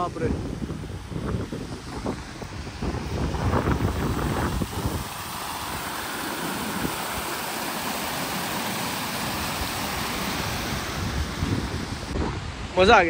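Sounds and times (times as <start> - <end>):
creek water rushing over rocks: 1.2 - 12.2.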